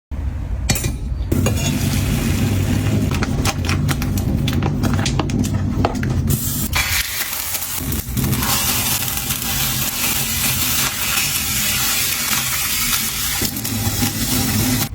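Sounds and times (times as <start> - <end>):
steady cooking hiss: 1.3 - 14.9.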